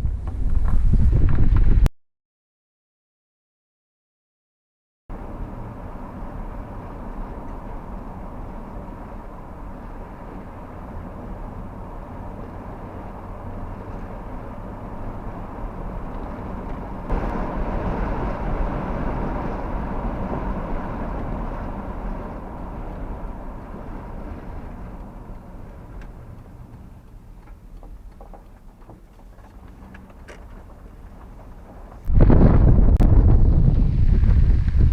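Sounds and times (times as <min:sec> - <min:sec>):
vehicle road noise rumble: 0:00.0 - 0:01.9, 0:05.1 - 0:34.9.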